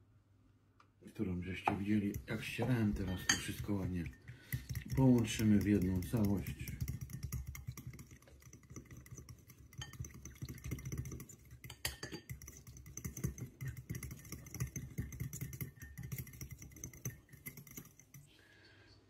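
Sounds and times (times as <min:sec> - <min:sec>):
fork whisking in porcelain bowl: 0:01.5 - 0:18.3.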